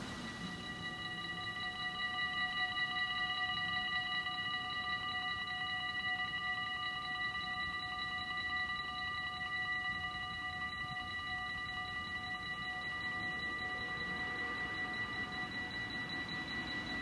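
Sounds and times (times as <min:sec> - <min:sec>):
level crossing warning bells: 0:00.0 - 0:17.0.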